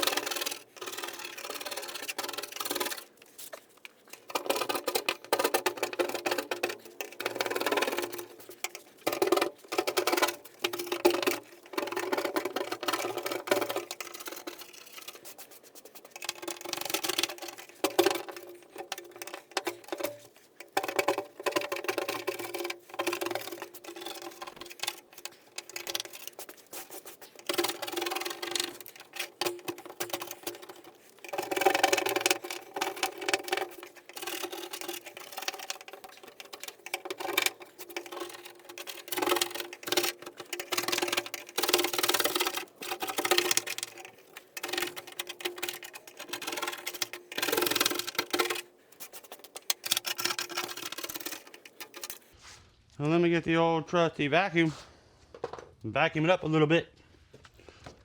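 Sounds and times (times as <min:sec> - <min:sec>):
scraping and clattering on metal: 0:00.0 - 0:52.4.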